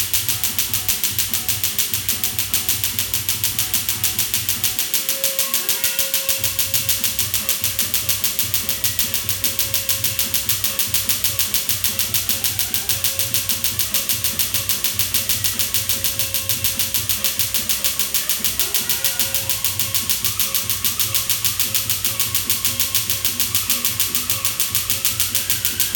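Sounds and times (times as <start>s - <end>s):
laser firing snapping clicks: 0.0s - 25.9s.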